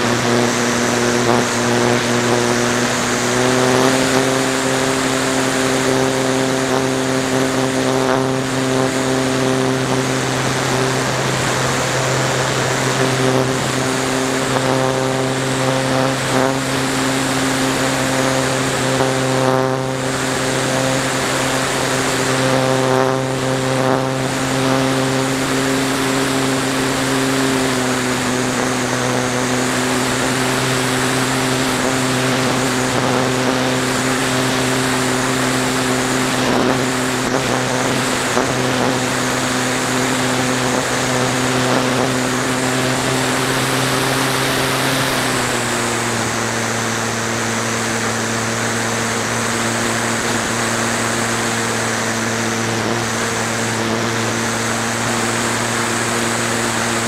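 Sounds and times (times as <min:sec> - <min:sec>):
electric motor and propeller drone: 0:00.0 - 0:57.0.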